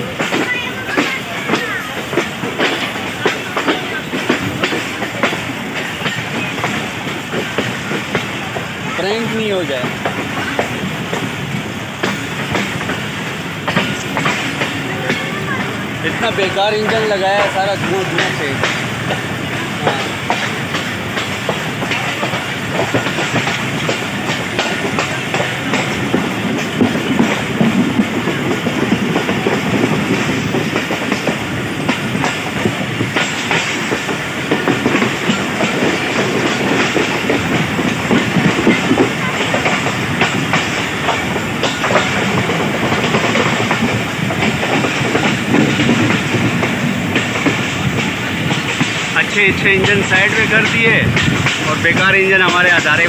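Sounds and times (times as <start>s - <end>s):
train rumbling: 0.0s - 53.0s
wheels clattering over rail joints: 0.0s - 53.0s.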